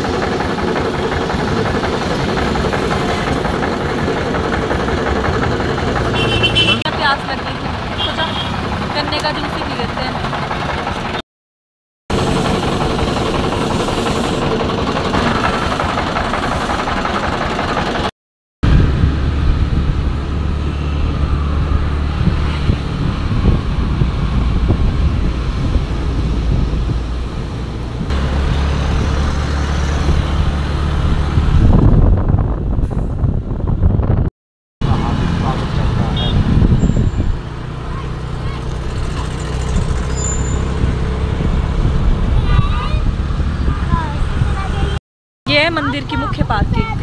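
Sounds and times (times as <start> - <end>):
car engine and road noise: 0.0 - 11.2, 12.1 - 47.0.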